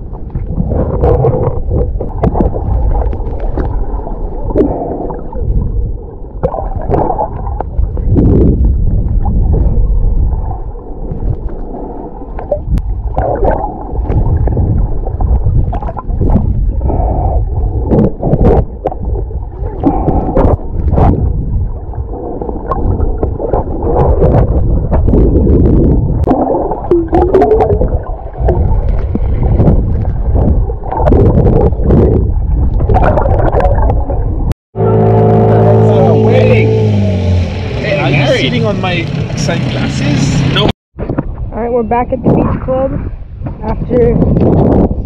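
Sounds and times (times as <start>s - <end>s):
water churning and gurgling: 0.0s - 45.0s.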